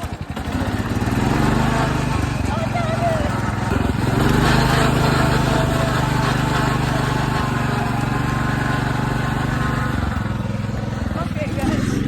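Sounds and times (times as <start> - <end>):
small mower engine running: 0.0 - 12.0.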